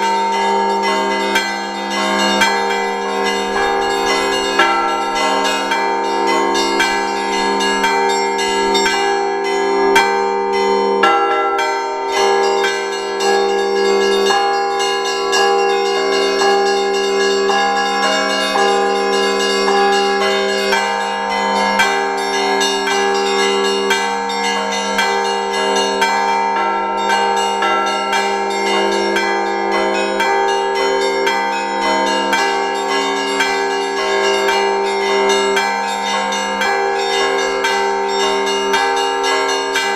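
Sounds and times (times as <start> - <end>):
large low church bells ringing: 0.0 - 39.9
small church bells ringing quickly: 0.0 - 39.9.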